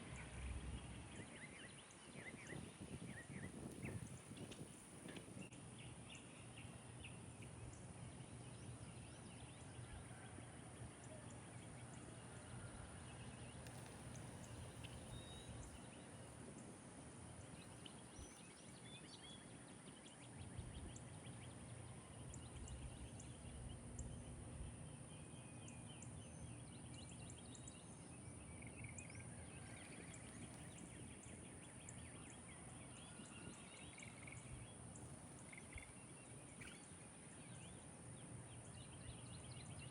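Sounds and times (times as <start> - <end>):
constant high-pitched tone: 0.0 - 39.9
faint birdsong: 0.0 - 39.9.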